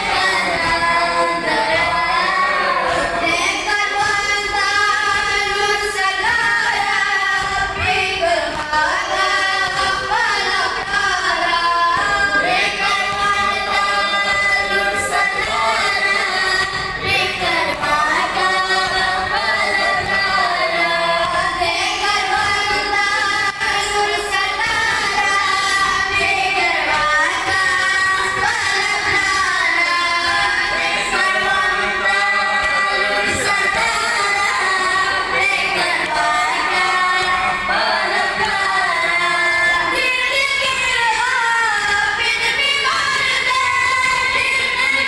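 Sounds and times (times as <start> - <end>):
boys chanting a mourning lament: 0.0 - 45.0.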